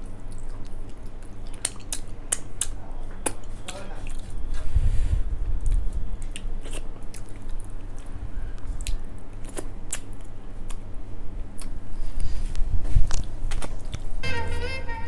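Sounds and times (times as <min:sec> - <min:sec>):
wet chewing with mouth clicks: 0:00.0 - 0:04.6, 0:05.5 - 0:10.9, 0:11.5 - 0:14.1.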